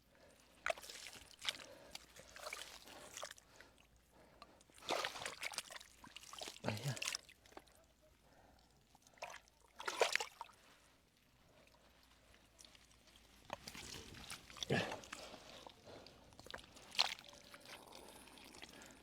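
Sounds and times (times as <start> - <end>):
hands squelching in wet mud: 0.5 - 7.8, 9.0 - 19.0.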